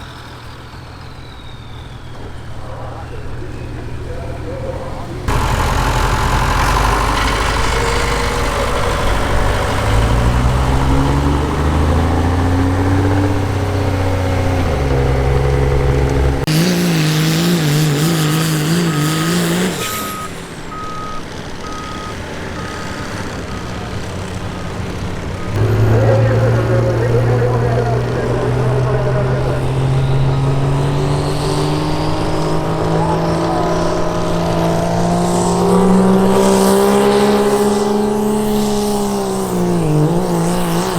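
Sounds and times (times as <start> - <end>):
diesel engine at full throttle: 0.0 - 40.9
reversing beeper: 0.1 - 16.7, 17.4 - 37.5.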